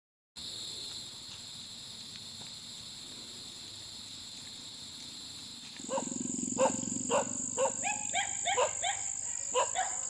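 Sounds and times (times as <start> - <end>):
insects buzzing: 0.4 - 10.0.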